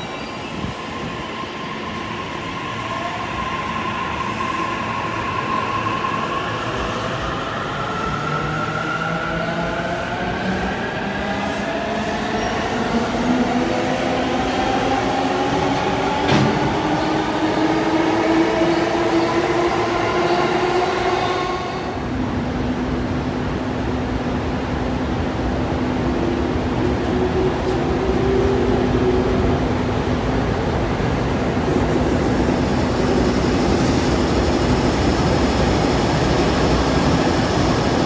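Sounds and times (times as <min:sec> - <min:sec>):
rolling rail noise: 0:00.0 - 0:38.0.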